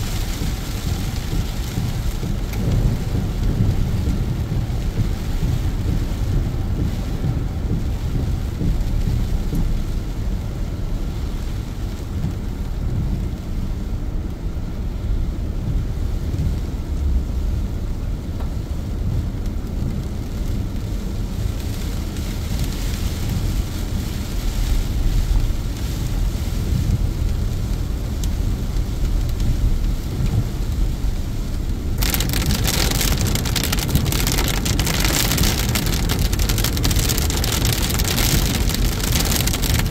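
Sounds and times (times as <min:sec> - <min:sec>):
rain on car windshield: 0:00.0 - 0:39.9
steady low rumble: 0:00.0 - 0:39.9.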